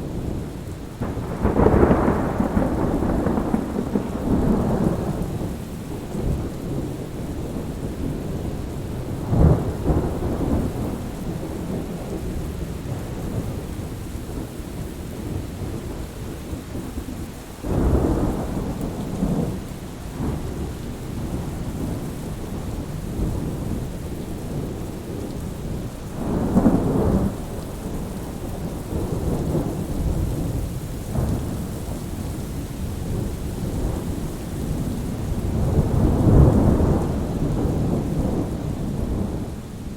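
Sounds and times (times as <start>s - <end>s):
rolling thunder: 0.0s - 17.0s, 17.6s - 39.9s
steady rain: 0.0s - 39.9s.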